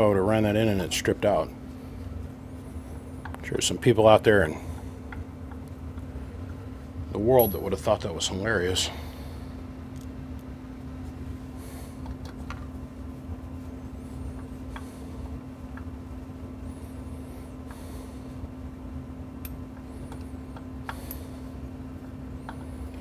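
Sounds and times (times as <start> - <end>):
low constant hum: 0.0 - 23.0.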